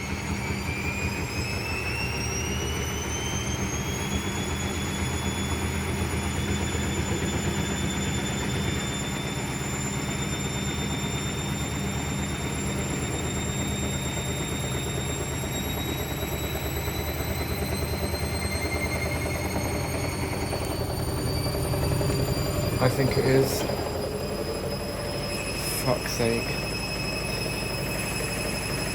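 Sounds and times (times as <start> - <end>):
washing machine spinning: 0.0 - 28.9.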